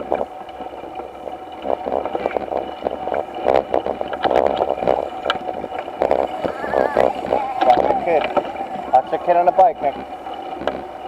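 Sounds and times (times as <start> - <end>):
bicycle rattling and clicking: 0.0 - 11.0
wind on microphone: 1.6 - 11.0.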